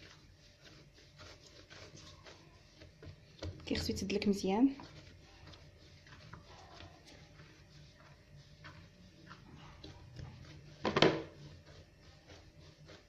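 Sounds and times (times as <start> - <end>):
dough squishing and tapping: 0.0 - 13.0.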